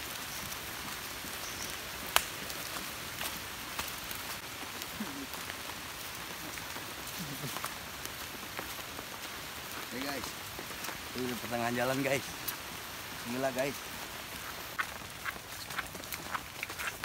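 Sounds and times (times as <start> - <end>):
light rain patter: 0.0 - 17.0.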